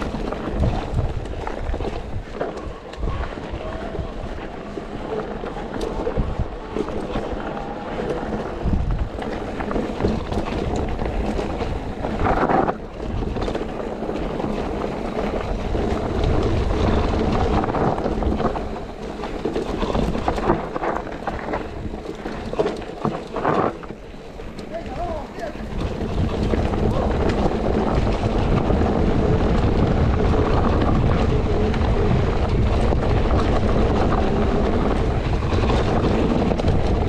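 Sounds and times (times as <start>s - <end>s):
bike tyres rolling on dirt: 0.0s - 37.0s
wind buffeting microphone: 0.0s - 37.0s.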